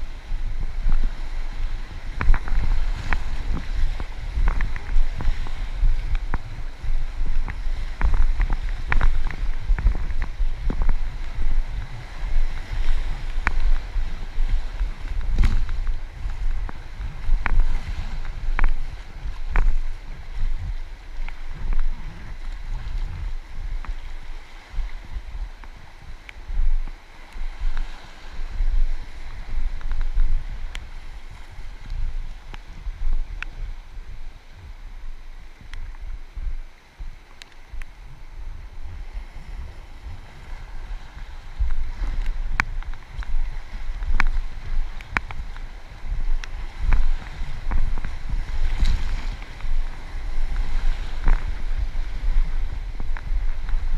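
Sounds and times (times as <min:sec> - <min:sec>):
sharp ticks and splashes: 0:00.0 - 0:34.6, 0:35.5 - 0:53.9
river water rushing: 0:00.0 - 0:53.9
wind rumble on microphone: 0:00.0 - 0:53.9.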